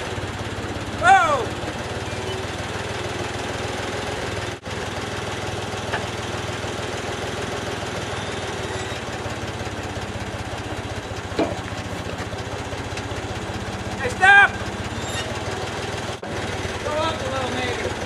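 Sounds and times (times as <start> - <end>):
diesel engine idling: 0.0 - 8.0, 9.0 - 17.8.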